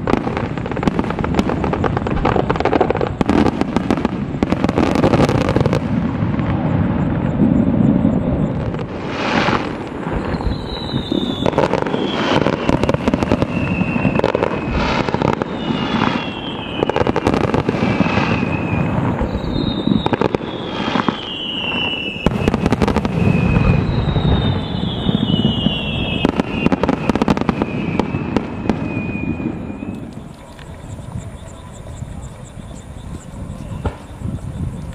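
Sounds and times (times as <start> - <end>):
falling firework whistles: 0.0 - 34.9
fireworks bangs and crackling: 0.0 - 34.9.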